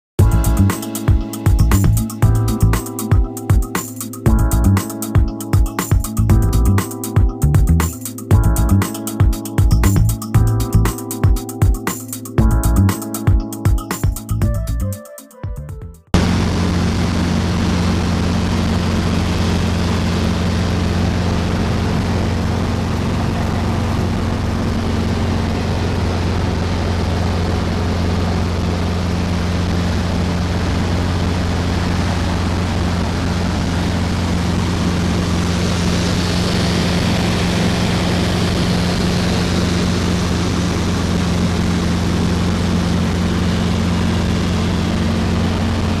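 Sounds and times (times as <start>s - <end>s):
helicopter cabin drone: 0.2s - 14.9s, 16.1s - 46.0s.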